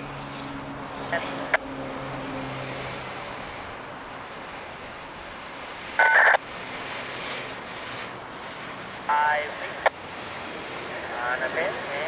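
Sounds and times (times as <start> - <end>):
freight cars rumbling past: 0.0 - 12.0.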